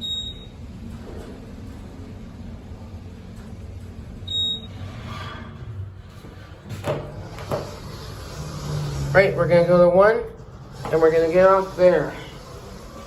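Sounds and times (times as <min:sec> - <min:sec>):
elevator car humming: 0:00.0 - 0:13.0
elevator doors sliding: 0:00.0 - 0:13.0.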